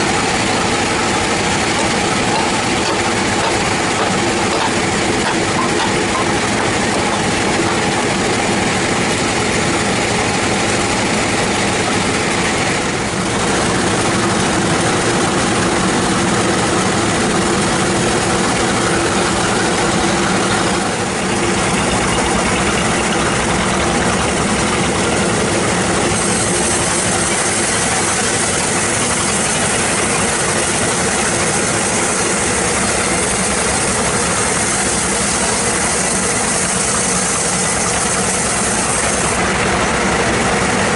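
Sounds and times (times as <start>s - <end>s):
band sawmill motor drone: 0.0s - 40.9s.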